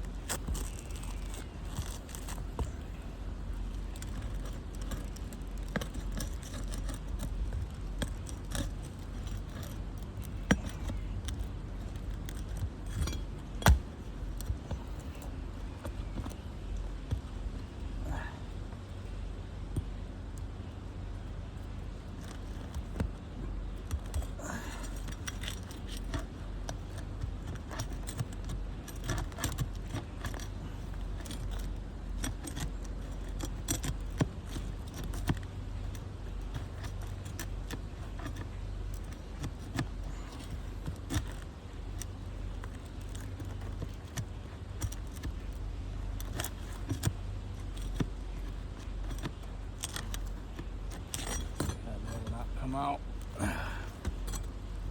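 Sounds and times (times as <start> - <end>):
shingles scraping and crackling: 0.0 - 19.2, 20.5 - 54.9.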